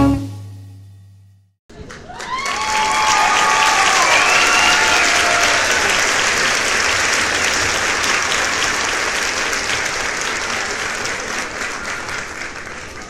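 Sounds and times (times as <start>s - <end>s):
crowd applauding: 1.7s - 13.0s.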